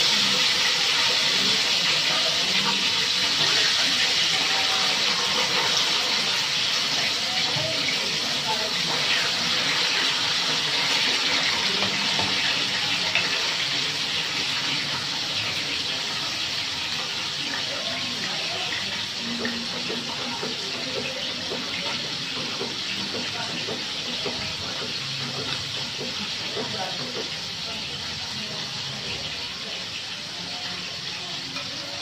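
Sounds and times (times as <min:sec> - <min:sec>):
liquid boiling in a metal pan: 0:00.0 - 0:32.0.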